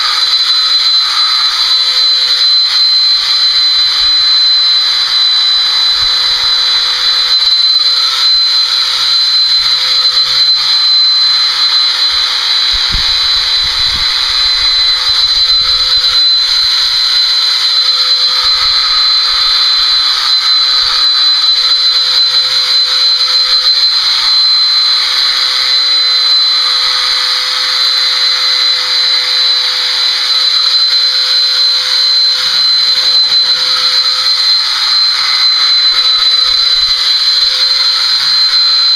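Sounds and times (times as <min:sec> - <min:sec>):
electric clippers whining: 0:00.0 - 0:38.9.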